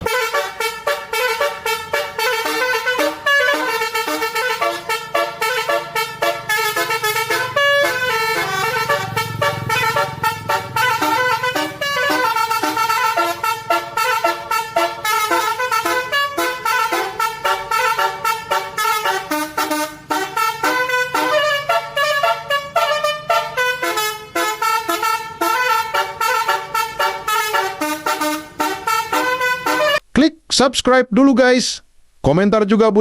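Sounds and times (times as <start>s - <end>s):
low engine rumble: 0.0s - 29.4s
multi-tone bus horn tune: 0.0s - 30.0s.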